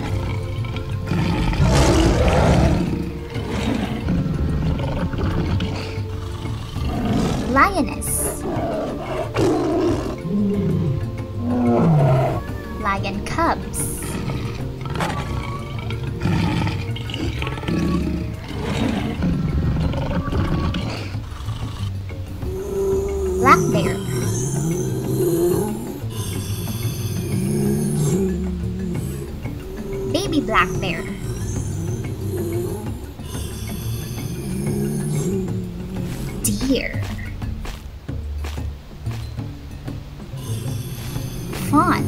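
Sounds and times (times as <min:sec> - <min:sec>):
lion grunts: 0:00.0 - 0:37.3
lion roaring: 0:00.0 - 0:37.4.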